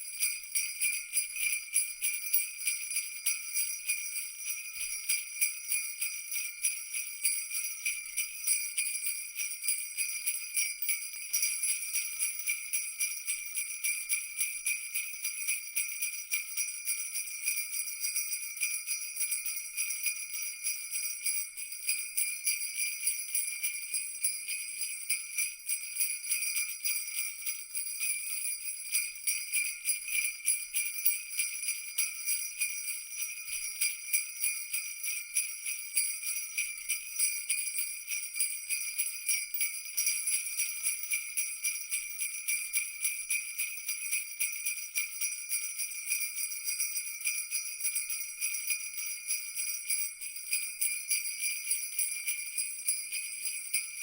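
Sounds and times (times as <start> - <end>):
jingle bells shaking: 0.0 - 54.0.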